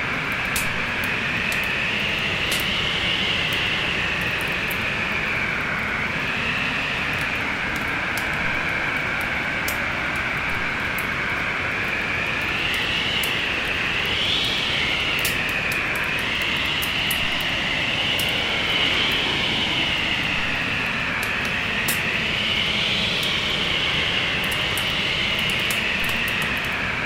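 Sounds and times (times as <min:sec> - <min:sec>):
wood fire crackling: 0:00.0 - 0:22.4
storm wind whistling: 0:00.0 - 0:27.0.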